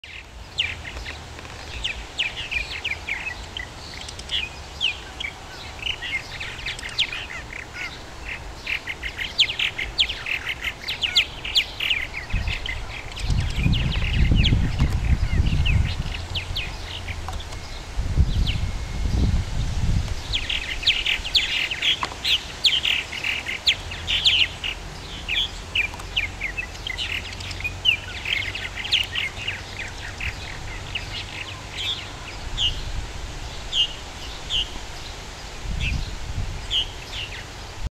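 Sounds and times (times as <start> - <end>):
purple martins chirping: 0.1 - 37.7.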